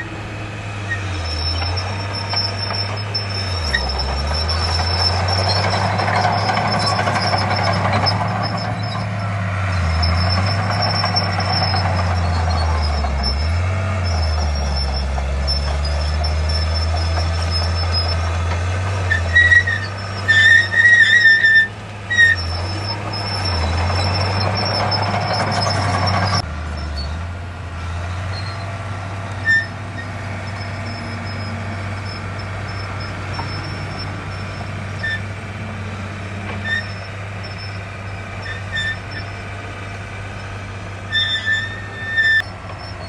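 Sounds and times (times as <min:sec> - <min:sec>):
heavy machinery diesel engine: 0:00.0 - 0:43.0
short high squeals: 0:00.8 - 0:27.3, 0:28.1 - 0:35.4, 0:36.5 - 0:37.8, 0:38.4 - 0:39.4, 0:40.4 - 0:43.0.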